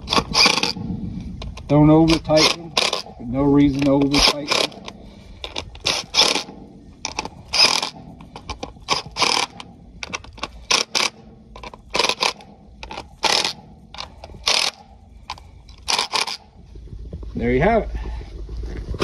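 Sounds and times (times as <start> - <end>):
impact driver bursts: 0.0 - 0.8, 1.5 - 16.5.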